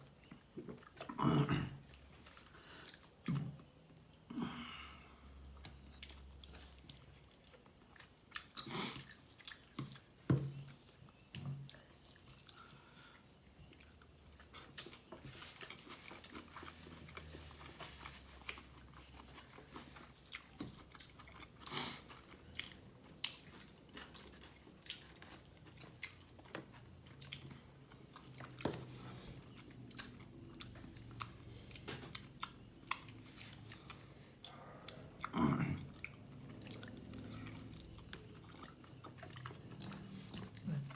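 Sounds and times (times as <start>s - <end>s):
chewing and biting food: 5.2s - 40.9s.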